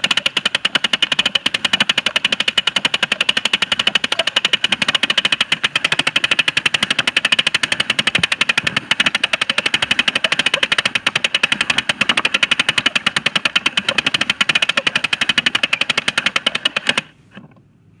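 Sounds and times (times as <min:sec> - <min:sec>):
film projector clattering: 0:00.0 - 0:17.2.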